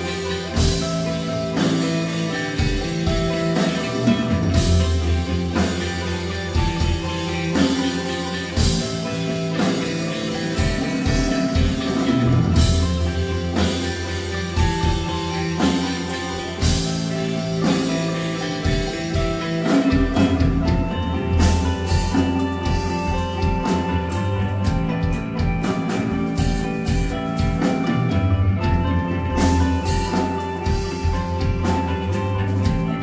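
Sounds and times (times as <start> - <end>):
drum kit with cymbal strokes: 0.0 - 33.0
sustained guitar and bass notes: 0.0 - 33.0.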